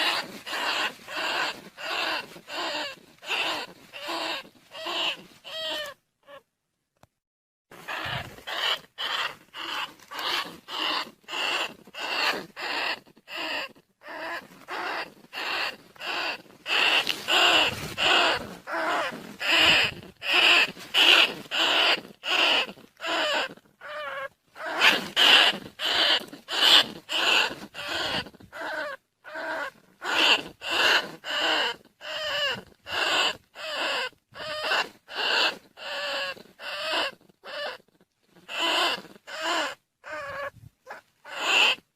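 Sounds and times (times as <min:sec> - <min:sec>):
rat squeaking calls: 0:00.0 - 0:06.4, 0:07.8 - 0:41.9.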